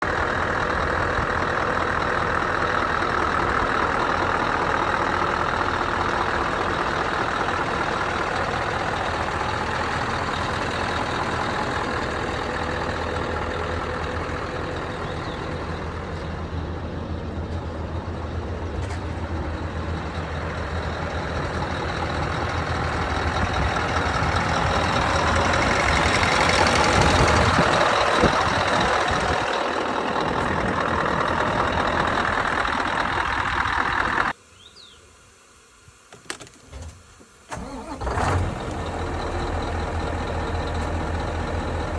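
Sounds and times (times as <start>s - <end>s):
truck diesel engine running: 0.0s - 34.7s, 37.4s - 41.9s.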